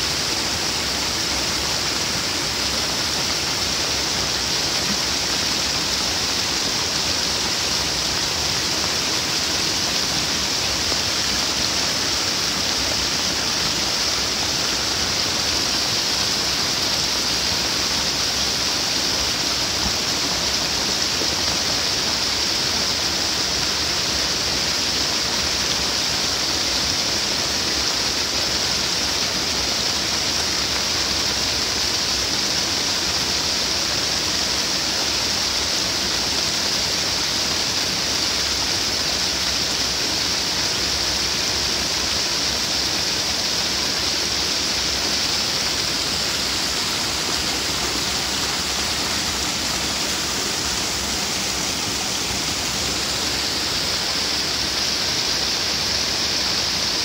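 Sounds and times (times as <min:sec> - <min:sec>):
heavy rain and water rushing: 0:00.0 - 0:57.0.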